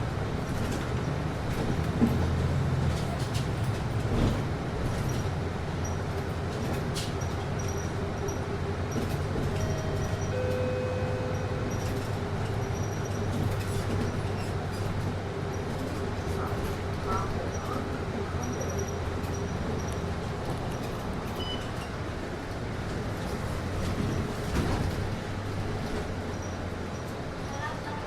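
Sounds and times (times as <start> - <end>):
bus air conditioning hum: 0.0 - 28.0.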